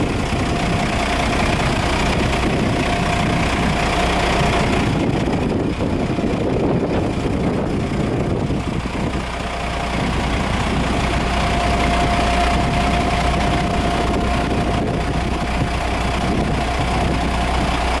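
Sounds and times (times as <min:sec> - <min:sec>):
diesel engine running: 0:00.0 - 0:18.0
thin steady whine: 0:00.0 - 0:18.0.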